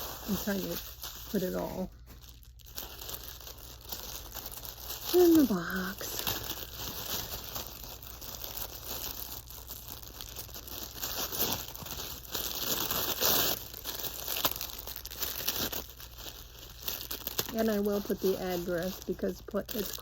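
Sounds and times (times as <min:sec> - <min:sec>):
packaging crinkling: 0:00.0 - 0:20.0.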